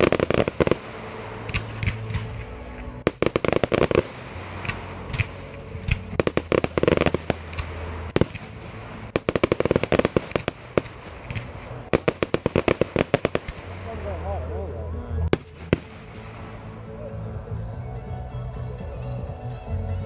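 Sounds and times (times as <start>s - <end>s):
fireworks bangs and crackles: 0.0s - 16.8s.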